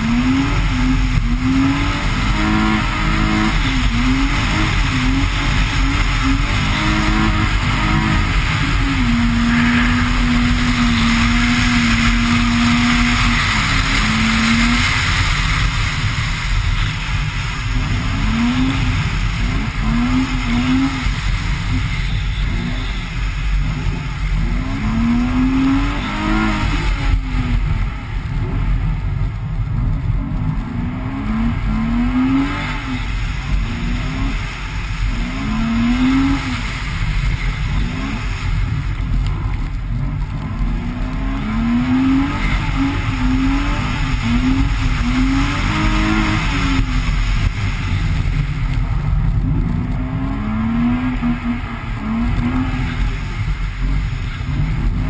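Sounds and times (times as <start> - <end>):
car engine revving hard: 0.0 - 55.0
steady rushing noise: 0.0 - 55.0.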